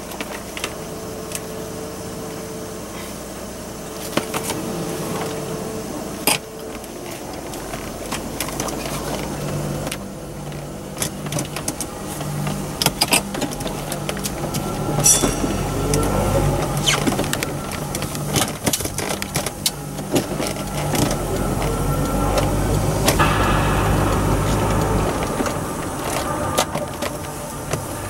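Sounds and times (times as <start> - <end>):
car engine hum: 0.0 - 28.0.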